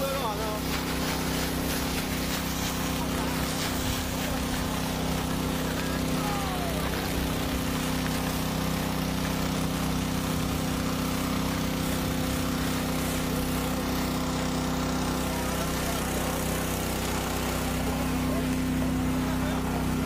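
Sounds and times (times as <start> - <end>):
steady mechanical drone: 0.0 - 20.0.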